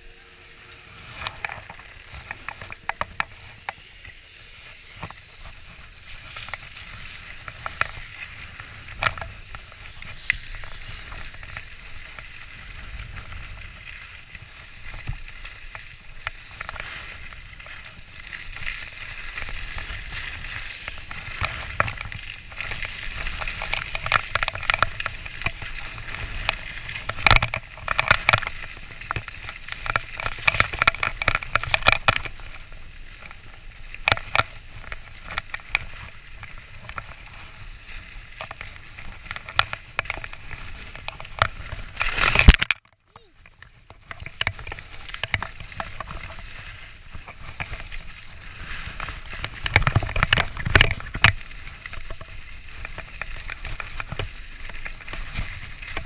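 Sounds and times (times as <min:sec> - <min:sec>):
skis scraping over packed snow: 0:00.0 - 0:42.6, 0:43.2 - 0:56.0
small clicks and crackles: 0:00.0 - 0:56.0.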